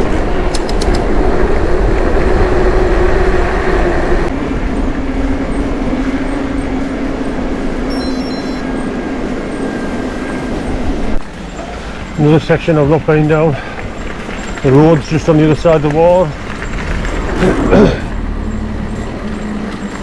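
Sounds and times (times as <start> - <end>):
tyres and wind rumble: 0.0 - 20.0.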